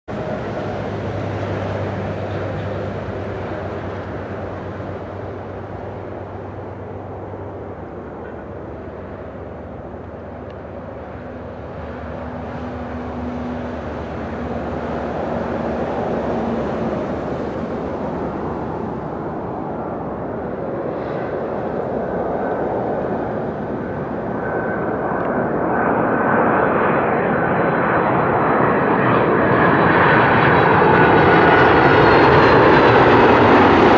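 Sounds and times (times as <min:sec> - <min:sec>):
high engine whine: 0:00.1 - 0:33.9
jet engines rushing: 0:00.1 - 0:33.9.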